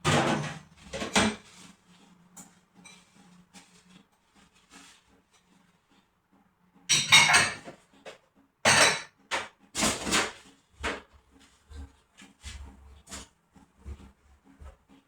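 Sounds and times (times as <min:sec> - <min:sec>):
household items clattering and scraping: 0:00.0 - 0:05.6, 0:06.9 - 0:14.8.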